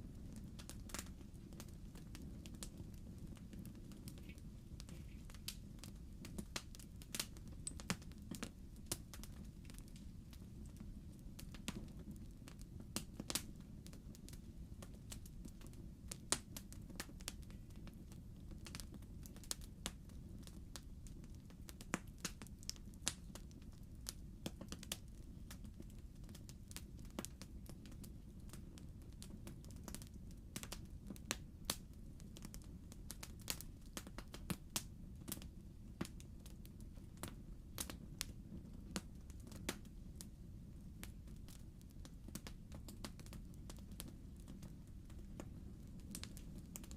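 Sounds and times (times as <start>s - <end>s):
low rumble of flames: 0.0s - 46.9s
wood fire crackling: 0.0s - 46.9s.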